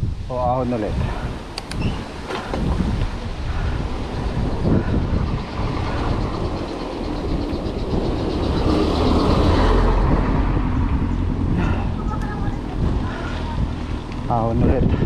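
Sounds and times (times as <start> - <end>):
bike tyres rolling on road: 0.0 - 15.0
wind buffeting microphone: 0.0 - 15.0.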